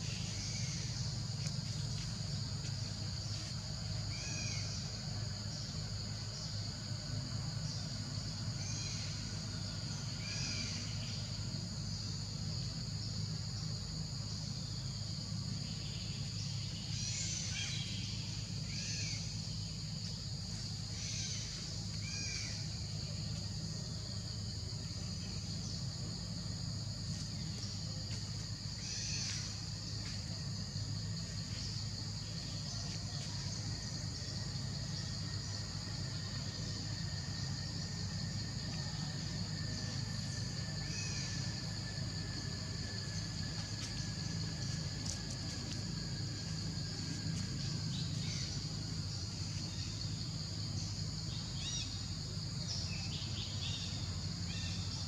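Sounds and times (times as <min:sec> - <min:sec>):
high-pitched insect drone: 0:00.0 - 0:55.0
low steady hum: 0:00.0 - 0:55.0.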